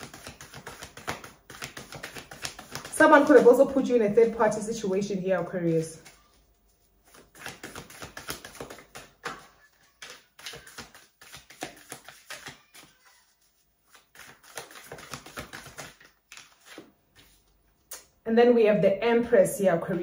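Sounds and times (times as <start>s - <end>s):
cards being shuffled: 0.0s - 4.4s, 5.8s - 17.6s.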